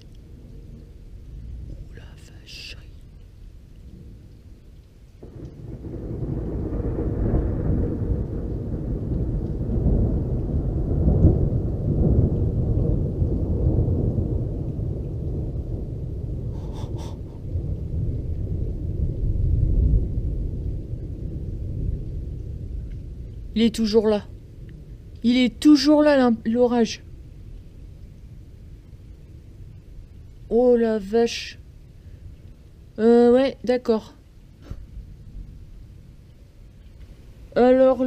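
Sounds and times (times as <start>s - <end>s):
rolling thunder: 0.0s - 38.0s.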